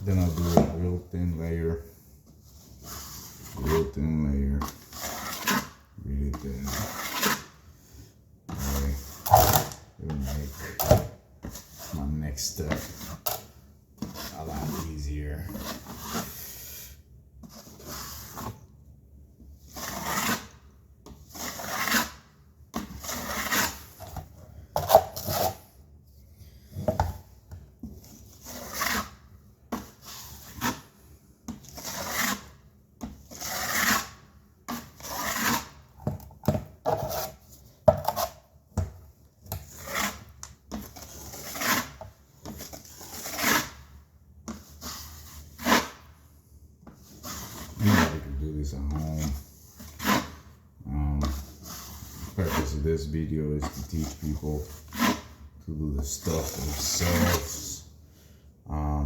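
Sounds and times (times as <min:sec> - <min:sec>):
putty knife scraping: 0:00.0 - 0:18.8, 0:19.4 - 0:25.8, 0:26.4 - 0:46.2, 0:46.8 - 0:57.9.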